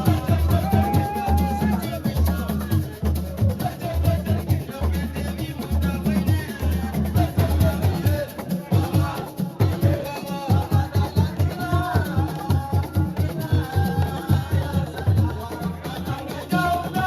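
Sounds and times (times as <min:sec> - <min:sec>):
music with fast drum beat: 0:00.0 - 0:17.0
person singing: 0:00.0 - 0:17.0.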